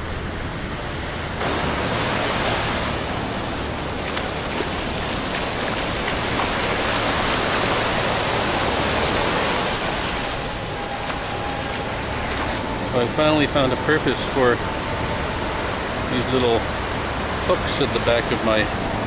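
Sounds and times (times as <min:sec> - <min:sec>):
waves washing up a beach: 0:01.4 - 0:19.0.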